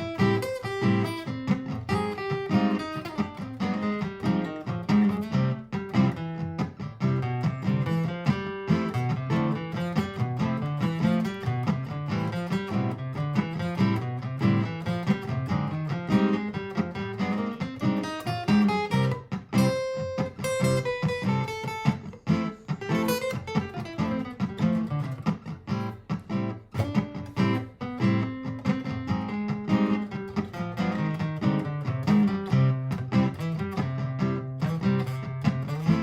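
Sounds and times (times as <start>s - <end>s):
looped acoustic guitar chords: 0.0s - 36.0s
picked guitar melody: 0.0s - 36.0s.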